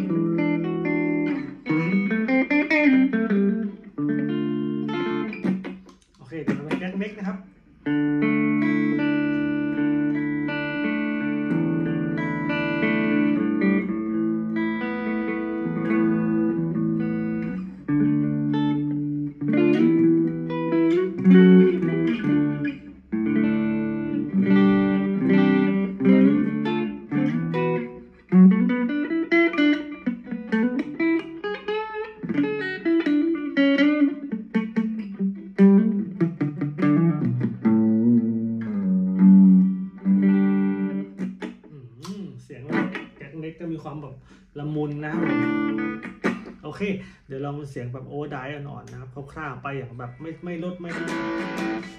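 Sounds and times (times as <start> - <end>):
clean electric guitar playing: 0.0 - 47.1, 49.6 - 51.9.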